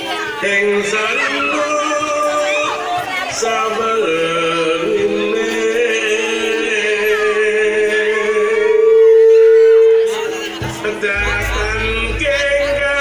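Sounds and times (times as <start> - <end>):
voices singing in harmony: 0.3 - 13.0.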